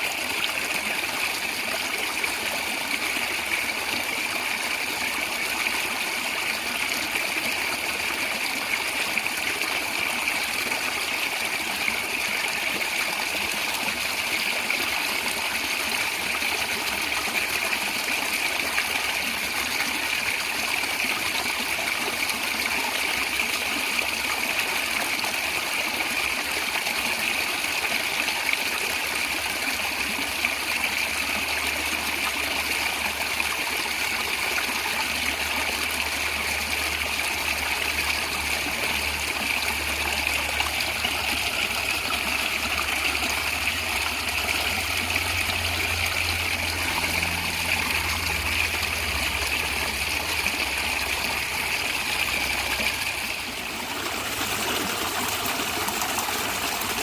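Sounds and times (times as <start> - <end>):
stream gurgling and trickling: 0.0 - 57.0.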